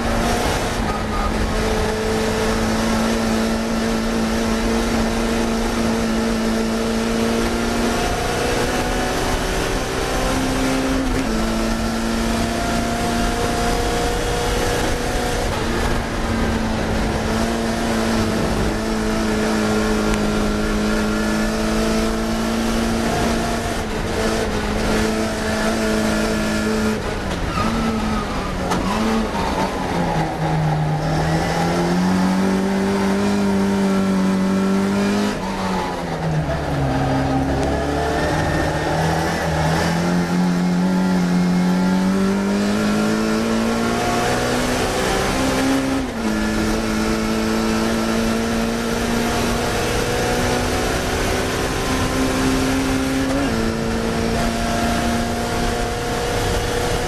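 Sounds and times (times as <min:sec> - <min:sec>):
race car engine changing gear: 0:00.0 - 0:57.0.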